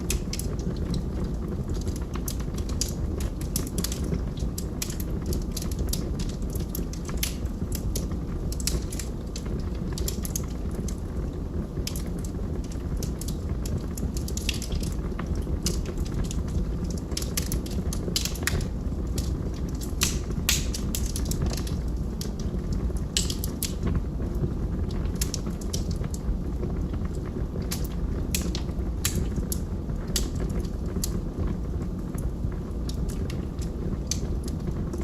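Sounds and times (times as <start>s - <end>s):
log fire crackling: 0.0s - 35.0s
low rumble of burning: 0.0s - 35.0s.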